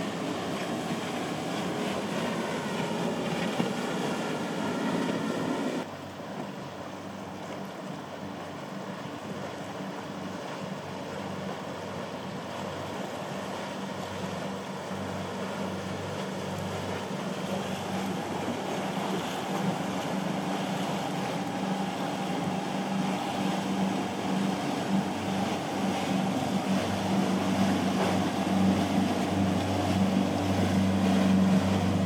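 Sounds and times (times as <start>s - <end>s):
motorboat engines: 0.0s - 32.0s
surf: 0.0s - 32.0s
water wash: 0.0s - 32.0s
wind: 0.0s - 32.0s.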